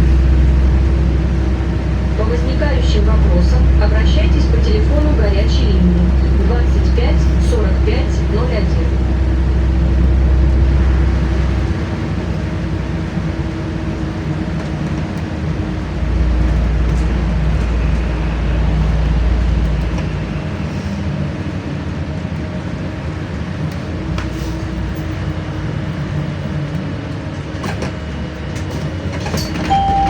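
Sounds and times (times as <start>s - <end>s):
bus engine rumble: 0.0s - 30.0s
road and tyre noise: 0.0s - 30.0s.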